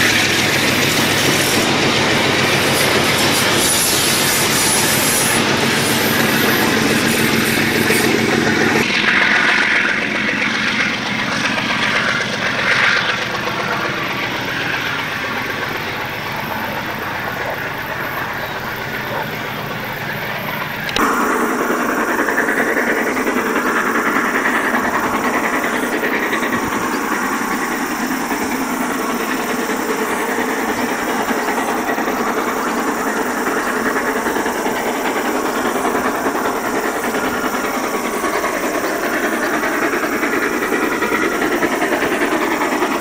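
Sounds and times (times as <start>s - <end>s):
train carriages rolling past: 0.0s - 43.0s.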